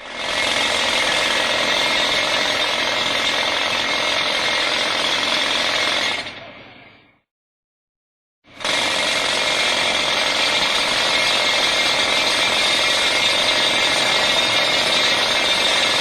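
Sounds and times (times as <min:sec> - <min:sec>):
jackhammer hammering: 0:00.0 - 0:06.4, 0:08.5 - 0:16.0.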